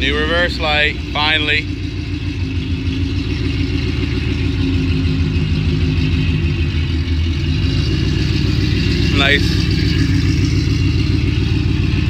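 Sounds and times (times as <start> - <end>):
car exhaust rumbling at idle: 0.0 - 12.0.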